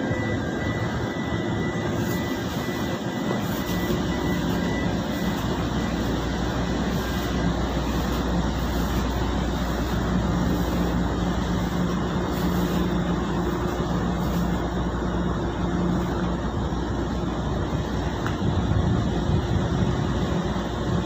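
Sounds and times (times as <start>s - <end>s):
ship machinery drone: 0.0s - 21.0s.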